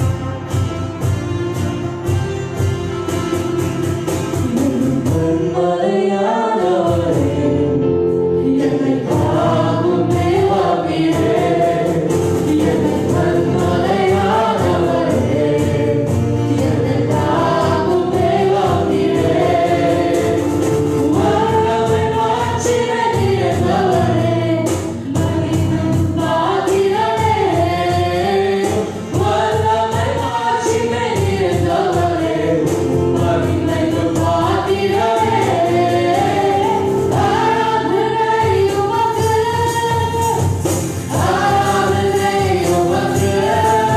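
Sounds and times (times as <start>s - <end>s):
acoustic guitar: 0.0s - 43.9s
man and woman singing along: 4.4s - 43.9s
woman singing worship song: 4.4s - 43.9s
sustained accompaniment: 7.2s - 43.9s.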